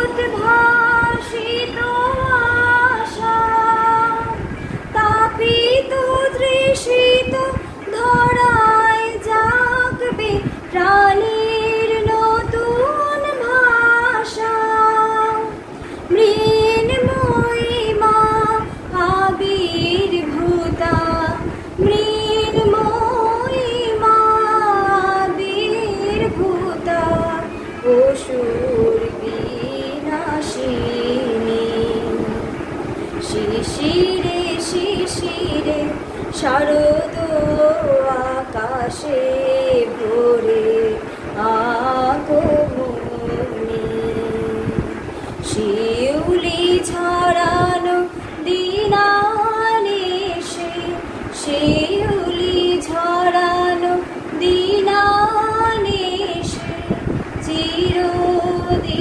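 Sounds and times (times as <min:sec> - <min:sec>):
woman singing: 0:00.0 - 0:59.0.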